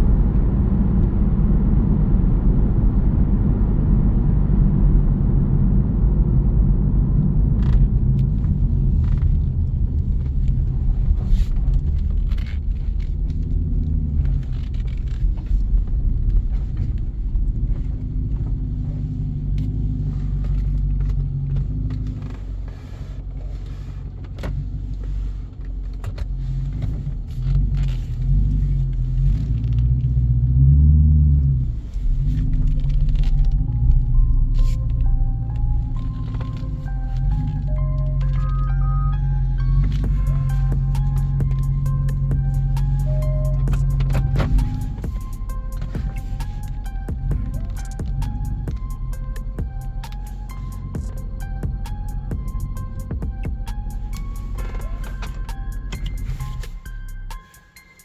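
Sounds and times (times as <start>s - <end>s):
car exhaust rumbling: 0.0s - 57.9s.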